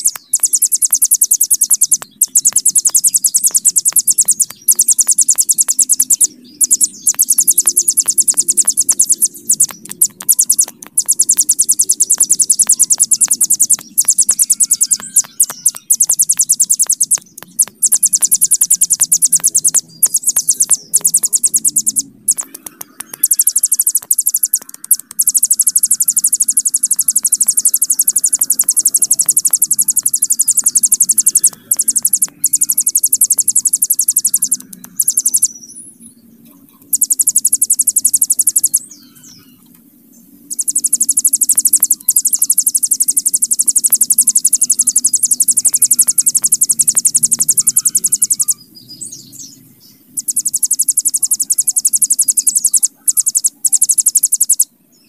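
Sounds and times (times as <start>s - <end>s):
bird singing fast buzzing trill: 0.0s - 36.1s, 36.9s - 39.6s, 40.5s - 55.0s.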